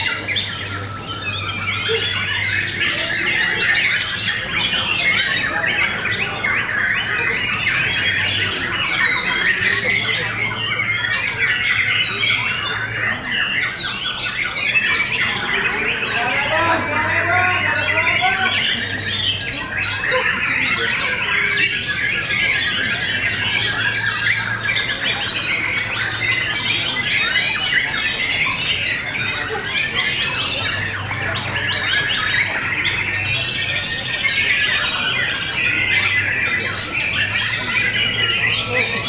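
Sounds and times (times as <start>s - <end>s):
birds singing in chorus: 0.0s - 39.0s.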